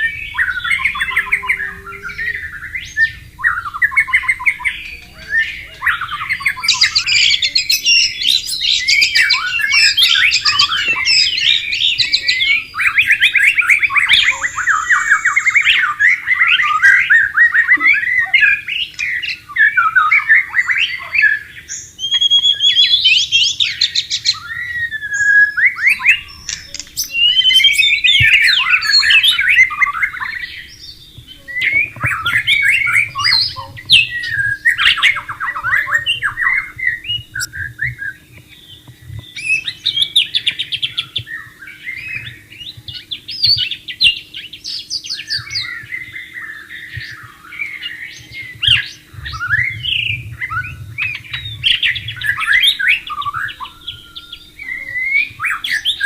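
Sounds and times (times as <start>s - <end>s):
songbird singing trills and whistles: 0.0s - 56.0s.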